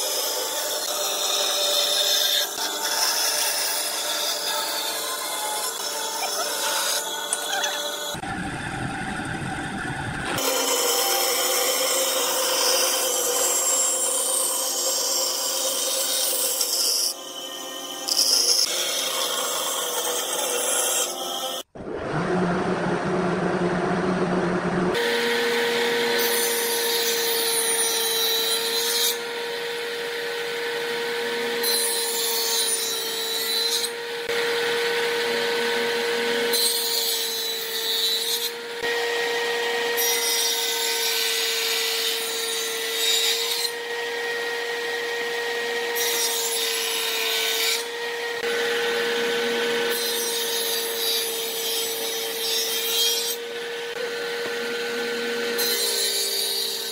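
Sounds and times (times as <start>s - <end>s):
saw blade cutting wood: 0.0s - 8.3s, 10.2s - 22.1s, 24.9s - 56.9s
table saw blade whine: 0.0s - 56.9s.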